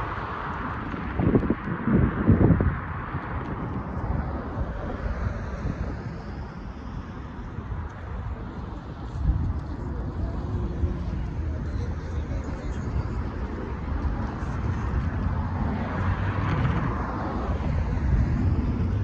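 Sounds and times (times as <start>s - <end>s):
light road traffic: 0.0s - 19.0s
wind buffeting microphone: 0.0s - 19.0s.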